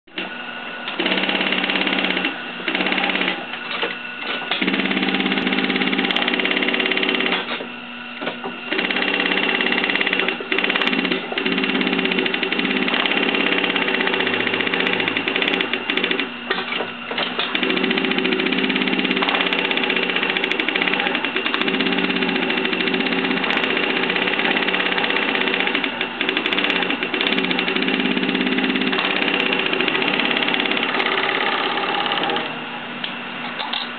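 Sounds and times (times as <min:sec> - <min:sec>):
sewing machine chatter: 0:00.9 - 0:32.6.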